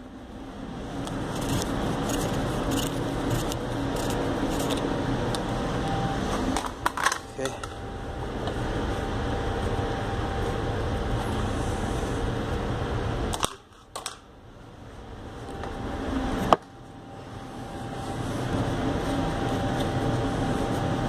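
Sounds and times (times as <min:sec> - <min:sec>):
steady noise: 0:00.0 - 0:21.0.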